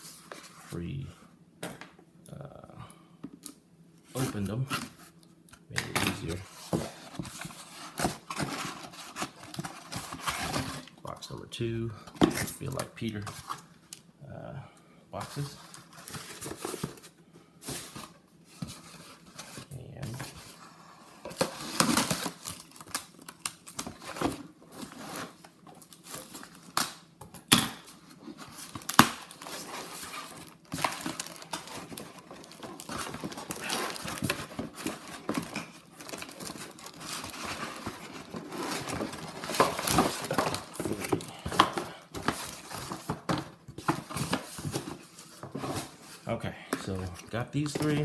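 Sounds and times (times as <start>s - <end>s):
paper and plastic crinkling: 4.1s - 5.2s, 5.8s - 13.9s, 15.2s - 27.1s, 27.7s - 48.0s.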